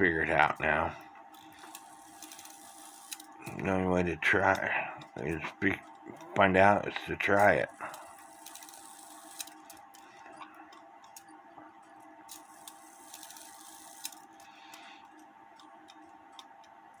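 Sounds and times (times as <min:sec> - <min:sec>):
faint steady hum: 0:00.0 - 0:17.0
clock movement ticking: 0:00.4 - 0:17.0.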